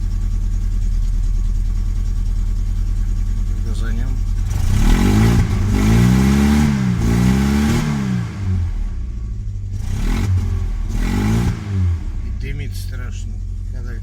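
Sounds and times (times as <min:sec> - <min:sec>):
car engine revving and idling roughly: 0:00.0 - 0:14.0.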